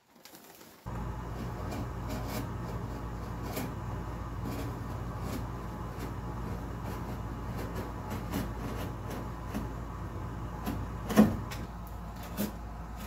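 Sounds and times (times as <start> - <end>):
steady low hum: 0.9 - 13.0.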